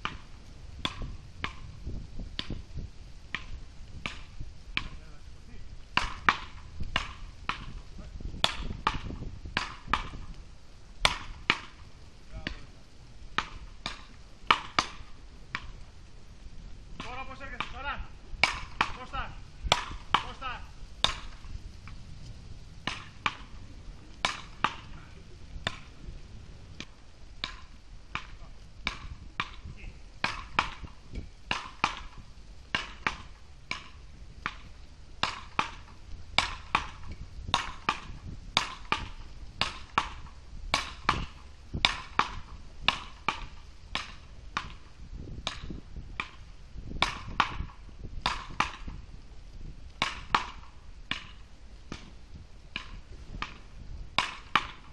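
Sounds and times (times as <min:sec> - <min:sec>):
paddle rackets hitting ball: 0:00.0 - 0:02.7, 0:03.3 - 0:05.1, 0:05.9 - 0:10.4, 0:11.0 - 0:15.9, 0:16.9 - 0:22.0, 0:22.8 - 0:49.1, 0:49.9 - 0:54.9.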